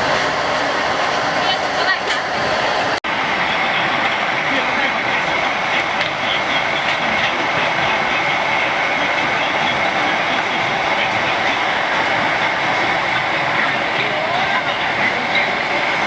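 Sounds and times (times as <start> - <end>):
street food stall rumbling hiss: 0.0 - 16.0.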